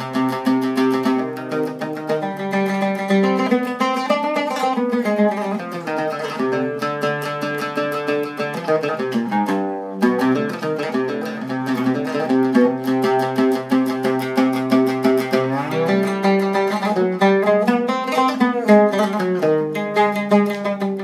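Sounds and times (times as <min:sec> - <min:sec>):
oud plucked notes: 0:00.0 - 0:21.0.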